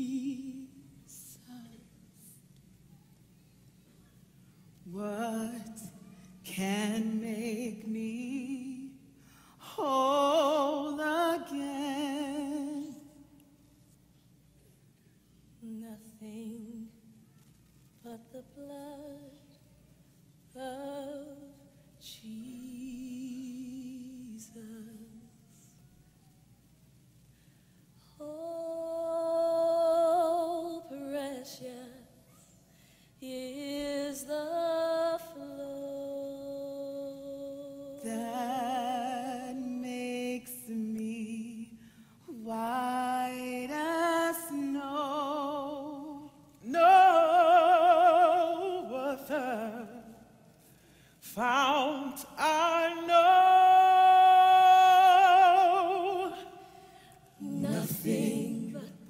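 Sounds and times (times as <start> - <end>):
woman singing unaccompanied: 0.0 - 2.5, 4.8 - 13.4, 15.6 - 17.2, 18.0 - 19.6, 20.5 - 25.5, 28.0 - 32.2, 33.2 - 50.3, 51.3 - 56.8, 57.4 - 59.0.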